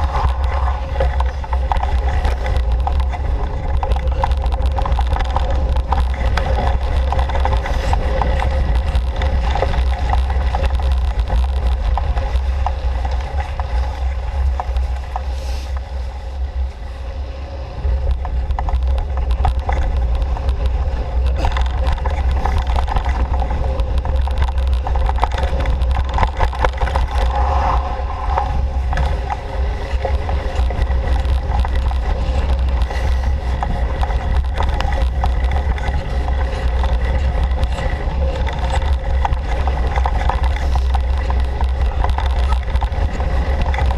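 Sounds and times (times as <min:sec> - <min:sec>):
constant hum: 0:00.0 - 0:43.9
wind rumble on microphone: 0:00.0 - 0:43.9.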